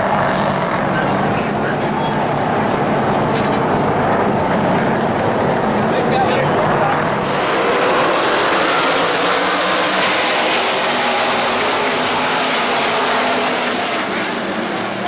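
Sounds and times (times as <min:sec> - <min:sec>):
race trucks passing: 0:00.0 - 0:15.0.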